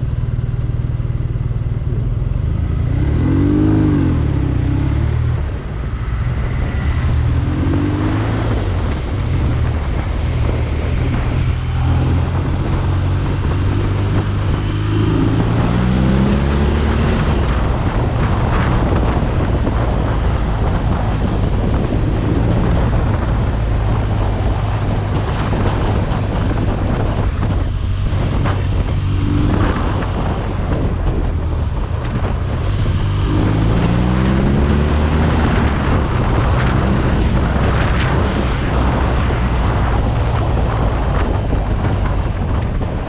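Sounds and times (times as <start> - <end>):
motorcycle engine accelerating: 0.0 - 43.0
wind buffeting microphone: 0.0 - 43.0.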